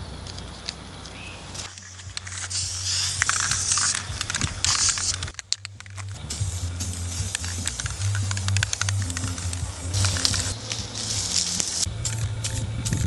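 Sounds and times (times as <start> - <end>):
light handling clicks: 0.2 - 12.6
aerosol spray can hissing: 1.5 - 13.0.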